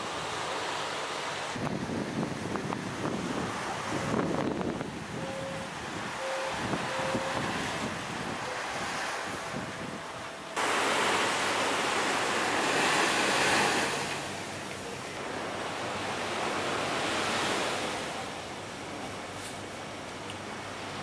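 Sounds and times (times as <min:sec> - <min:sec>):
surf washing onto beach: 0:00.0 - 0:21.0.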